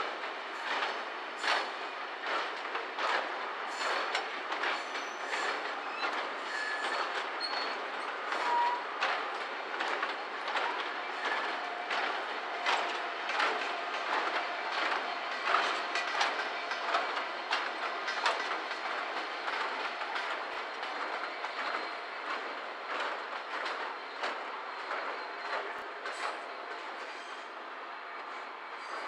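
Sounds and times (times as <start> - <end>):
train wheels clattering over rail joints: 0.0 - 29.0.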